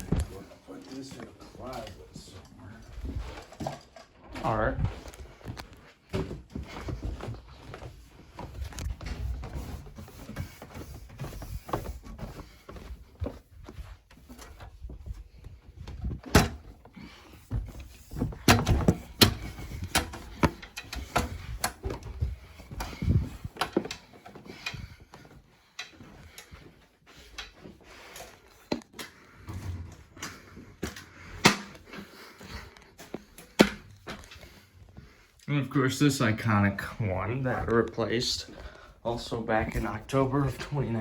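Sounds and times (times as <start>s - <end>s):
knocks and clunks of handling: 1.2s - 35.2s.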